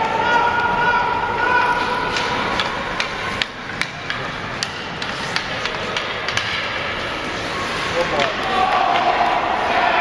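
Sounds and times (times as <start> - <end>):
hockey sticks clacking: 0.0 - 10.0.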